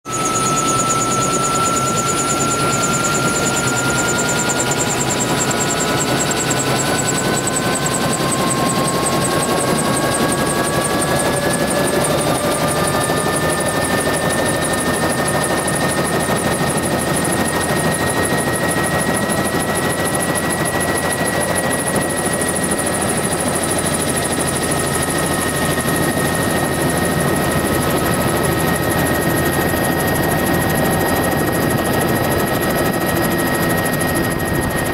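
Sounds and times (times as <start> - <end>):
helicopter engine and rotor noise: 0.0 - 34.9.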